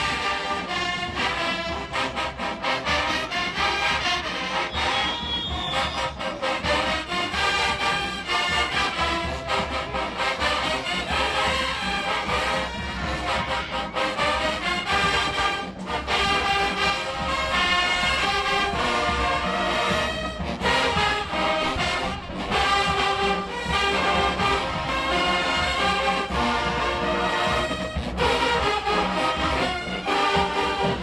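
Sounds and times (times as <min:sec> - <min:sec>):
marching band brass playing: 0:00.0 - 0:31.0.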